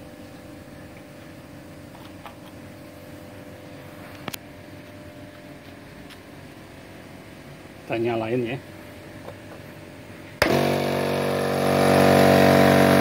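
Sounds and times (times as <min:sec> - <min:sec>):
faint background hum: 0:00.0 - 0:10.4.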